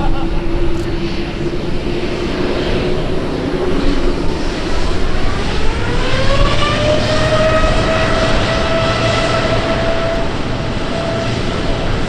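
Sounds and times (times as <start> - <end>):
aircraft engines spooling up: 0.0 - 12.0.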